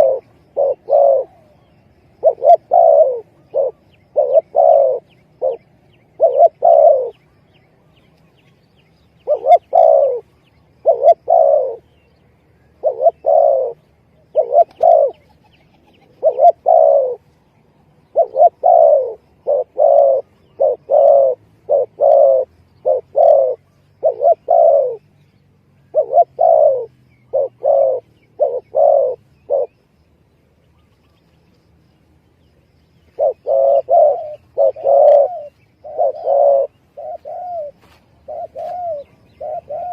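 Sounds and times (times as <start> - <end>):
dove cooing: 0.0 - 7.6, 9.0 - 17.3, 18.0 - 25.2, 25.8 - 29.8, 33.0 - 39.9.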